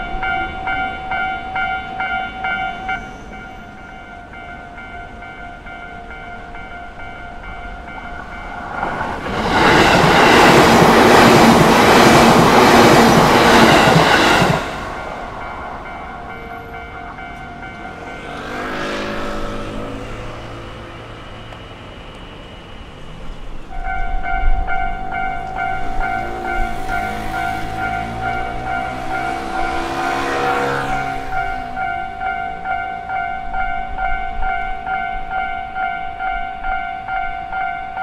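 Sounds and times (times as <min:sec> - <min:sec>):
level-crossing alarm ringing: 0:00.0 - 0:08.9, 0:09.5 - 0:22.0, 0:23.7 - 0:38.0
electric train rushing past: 0:00.0 - 0:38.0
train gliding whine: 0:00.0 - 0:38.0.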